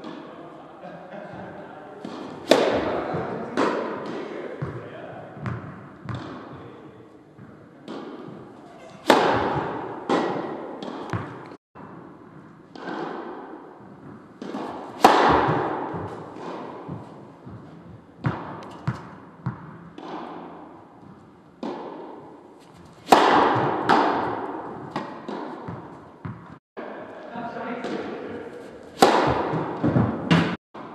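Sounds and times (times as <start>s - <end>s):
tennis ball bouncing: 2.0s - 4.8s, 5.4s - 6.6s, 7.4s - 26.6s, 27.8s - 30.9s
tennis ball hit with rackets: 2.0s - 4.8s, 5.4s - 6.6s, 7.9s - 26.9s, 27.8s - 30.9s.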